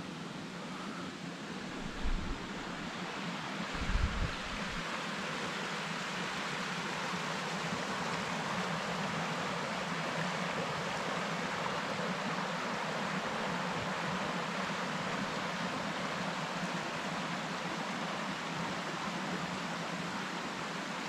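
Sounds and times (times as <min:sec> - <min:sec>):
stream flowing over stones: 0:01.2 - 0:21.0.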